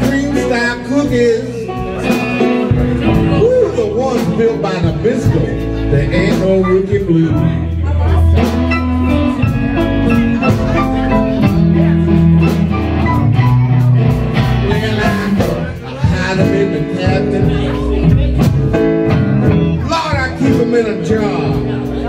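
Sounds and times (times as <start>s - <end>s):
electric guitar lead with bent notes: 0.0s - 22.0s
live blues band playing: 0.0s - 22.0s.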